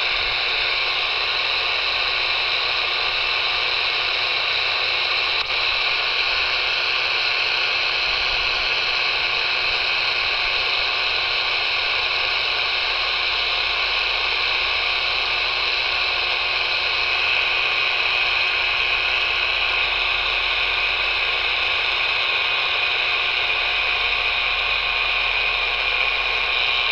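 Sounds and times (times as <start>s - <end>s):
shortwave radio static hiss: 0.0s - 26.9s.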